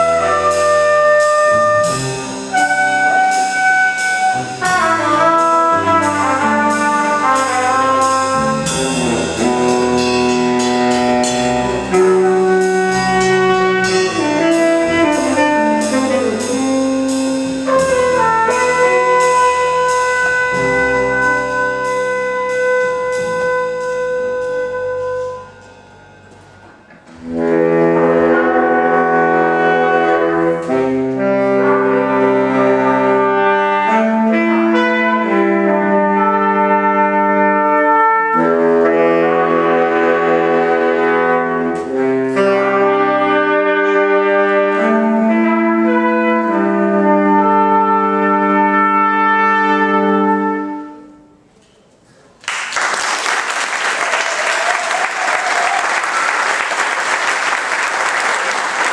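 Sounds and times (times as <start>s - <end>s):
small jazz ensemble playing: 0.0s - 58.9s.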